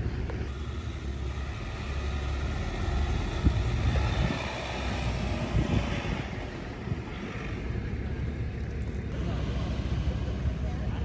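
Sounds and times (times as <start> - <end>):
pickup engine rumbling under load: 0.0 - 11.0.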